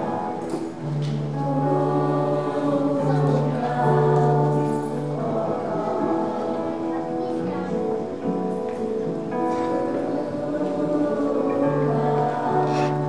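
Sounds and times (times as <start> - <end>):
choir singing: 0.0 - 7.9, 9.6 - 13.0.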